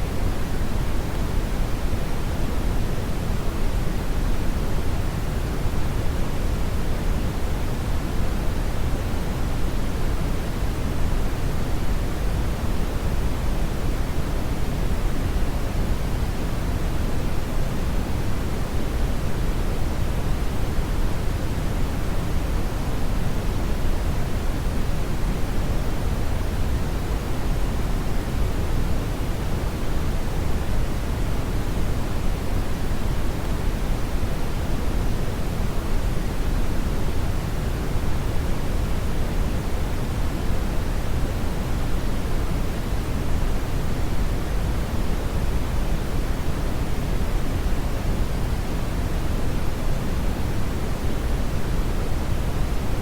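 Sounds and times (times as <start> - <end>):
brown noise hiss: 0.0 - 53.0.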